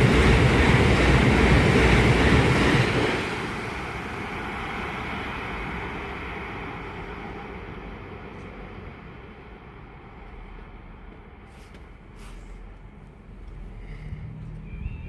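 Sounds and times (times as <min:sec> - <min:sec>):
passing train: 0:00.0 - 0:15.0.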